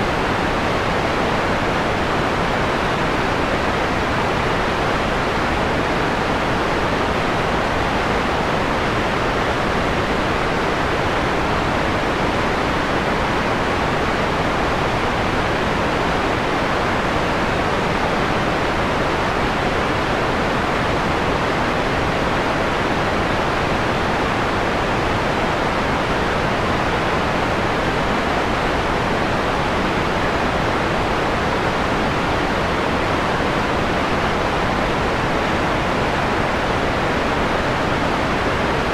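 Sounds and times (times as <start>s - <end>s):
softened white noise hiss: 0.0s - 38.9s.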